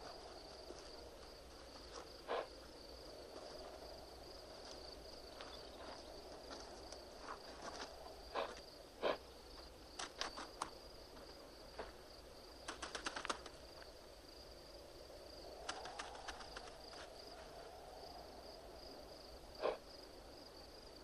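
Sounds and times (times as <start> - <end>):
faint insect drone: 0.0 - 21.0.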